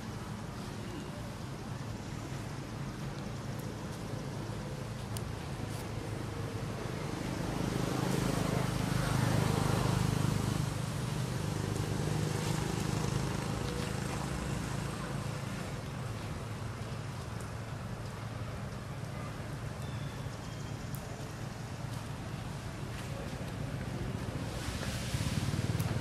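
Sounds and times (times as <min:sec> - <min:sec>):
vehicle engine rumble passing: 0:02.0 - 0:26.0.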